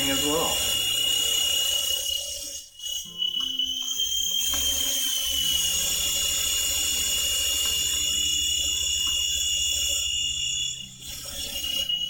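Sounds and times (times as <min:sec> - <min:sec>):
toy helicopter rotor whine: 0:00.0 - 0:12.0.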